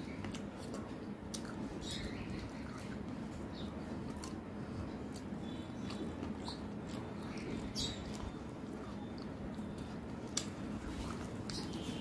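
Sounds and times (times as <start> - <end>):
person chewing with lip smacks: 0.0 - 3.3, 3.9 - 12.0.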